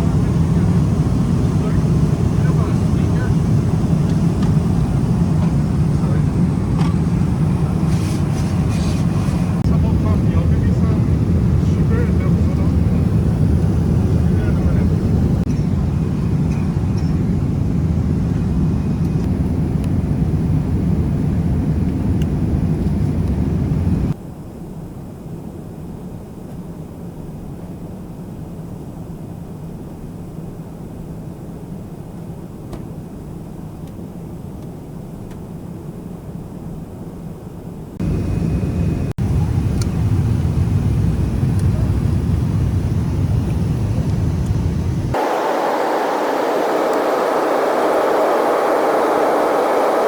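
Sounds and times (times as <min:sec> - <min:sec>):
airliner cabin engine rumble: 0:00.0 - 0:50.0.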